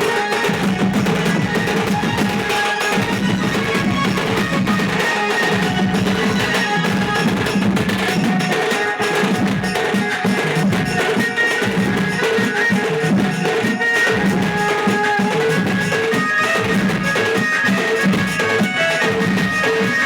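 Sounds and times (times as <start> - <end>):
dance song with drums: 0.0 - 20.0.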